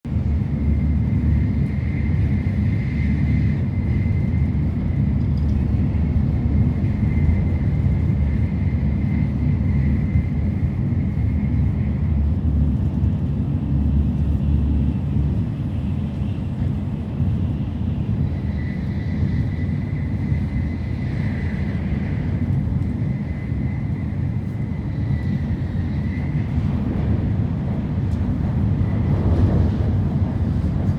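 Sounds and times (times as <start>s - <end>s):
train cabin low rumble: 0.1s - 30.9s.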